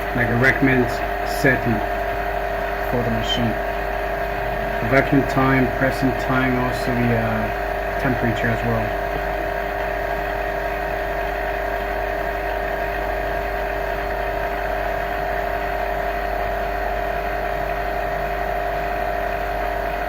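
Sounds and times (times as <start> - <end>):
machine hum with pitched whine: 0.0 - 20.0.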